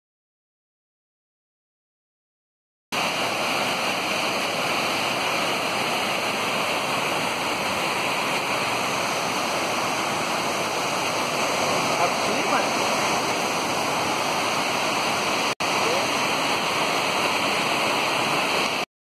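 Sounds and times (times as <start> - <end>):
waterfall rushing: 3.0 - 18.9.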